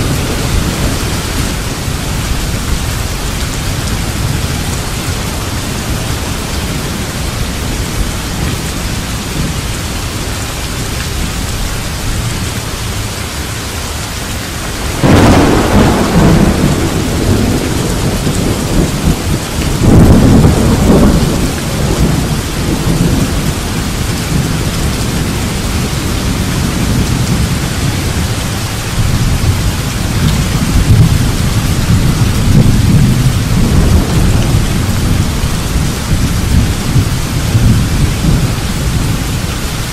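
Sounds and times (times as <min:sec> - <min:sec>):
thunder crack and rumble: 0:00.0 - 0:09.6, 0:14.7 - 0:39.9
rain falling: 0:00.0 - 0:39.9.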